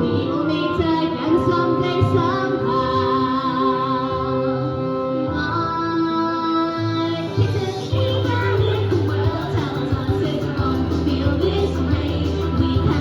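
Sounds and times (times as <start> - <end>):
instrumental backing: 0.0 - 13.0
woman singing pop song: 0.0 - 13.0.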